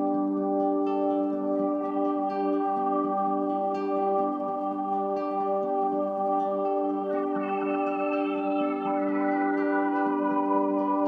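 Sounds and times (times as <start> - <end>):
slow sustained keyboard chords: 0.0 - 11.0.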